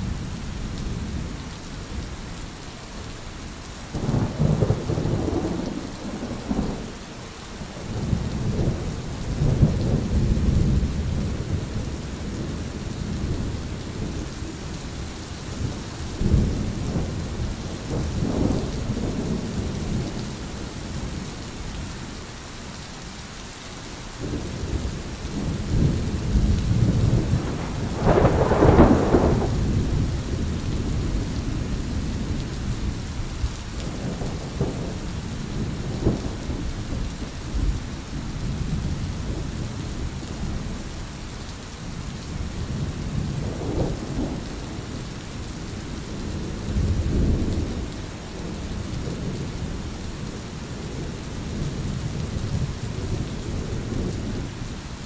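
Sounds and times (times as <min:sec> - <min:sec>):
rain hissing: 0:00.0 - 0:55.0
thunder rumbling: 0:04.0 - 0:06.9, 0:07.8 - 0:21.3, 0:24.2 - 0:40.8, 0:42.2 - 0:54.5.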